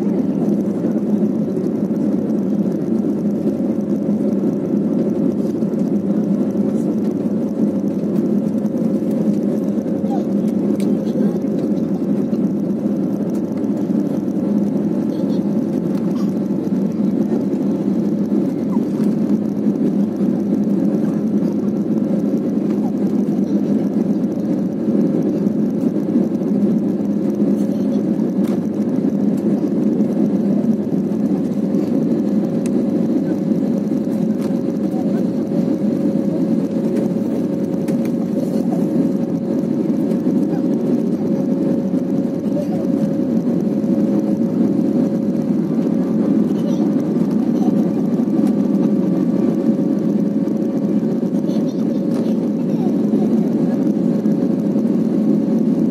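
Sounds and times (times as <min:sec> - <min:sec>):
jet engines at climb power: 0:00.0 - 0:55.9.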